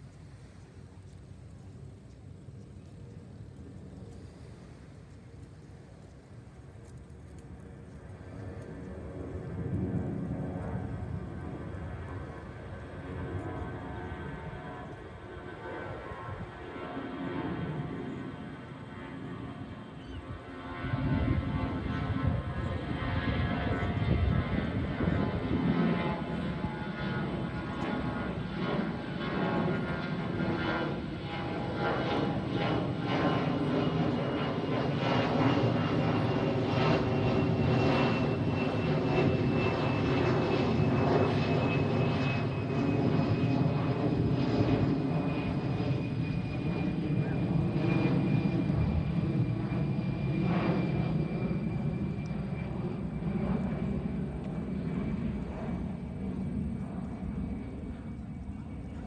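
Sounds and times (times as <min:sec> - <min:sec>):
jet airliner engine rumble: 0:00.0 - 0:59.0
jet engine high whine: 0:00.0 - 0:59.0.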